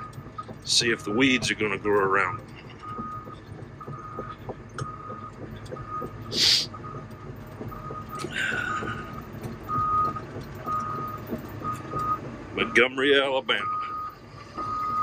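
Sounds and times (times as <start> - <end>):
backup alarm beeping: 0.0 - 15.0
excavator running: 0.0 - 15.0.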